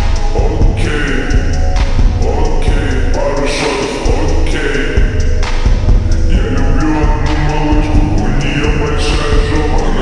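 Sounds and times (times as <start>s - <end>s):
heavy bass and kick beat: 0.0s - 10.0s
sustained synth tones: 0.2s - 10.0s.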